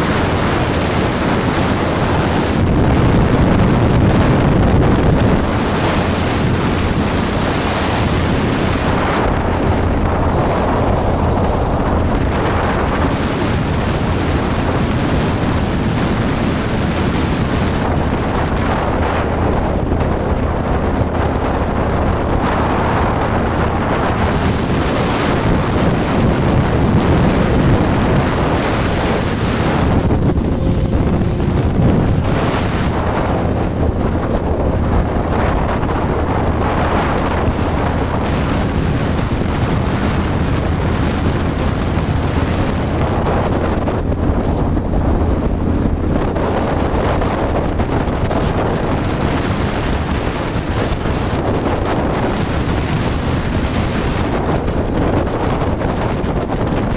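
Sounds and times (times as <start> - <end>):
motorcycle engine: 0.0 - 56.3
wind buffeting microphone: 0.0 - 56.9.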